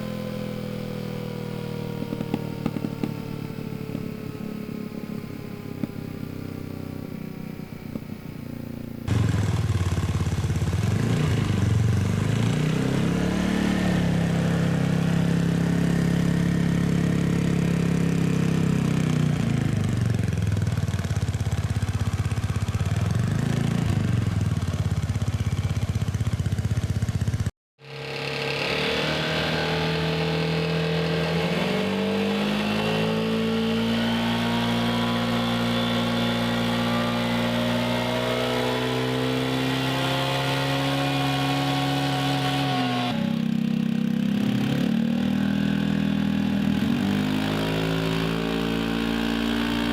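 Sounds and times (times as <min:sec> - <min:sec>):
scooter engine running: 0:00.0 - 0:49.9.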